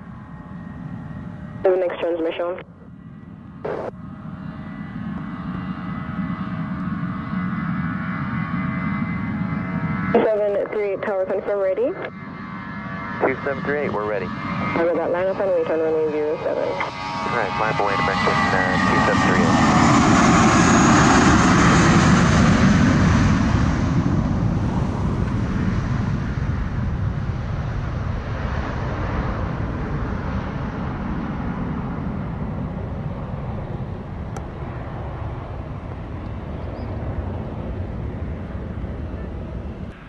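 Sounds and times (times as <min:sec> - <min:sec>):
jet airliner taking off: 0:00.0 - 0:40.0.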